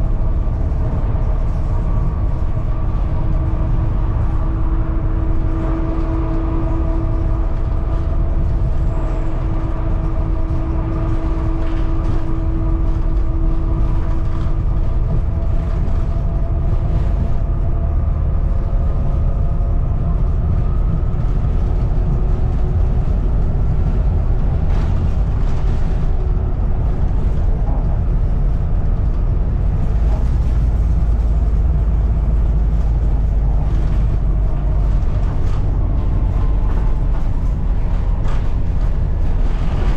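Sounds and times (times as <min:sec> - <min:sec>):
bus bodywork rattling: 0:00.0 - 0:39.9
bus diesel engine rumble: 0:00.0 - 0:39.9.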